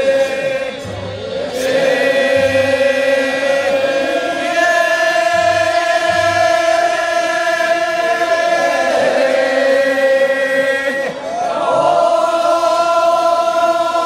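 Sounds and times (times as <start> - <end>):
voices chanting long tones: 0.0 - 14.0.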